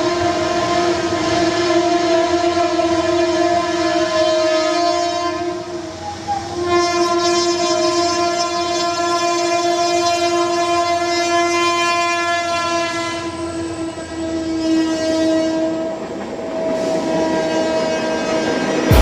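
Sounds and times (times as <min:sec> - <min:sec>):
train horn blast: 0:00.0 - 0:19.0.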